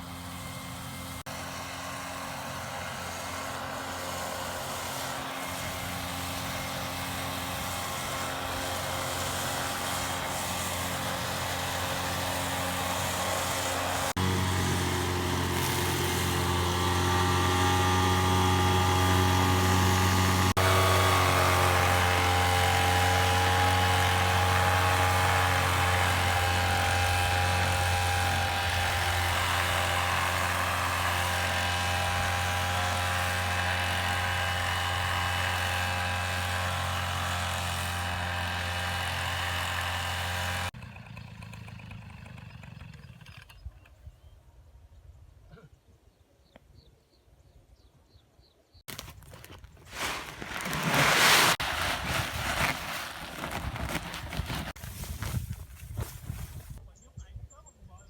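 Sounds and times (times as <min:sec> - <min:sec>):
small engine running: 0:00.0 - 0:43.9, 0:49.9 - 0:55.0.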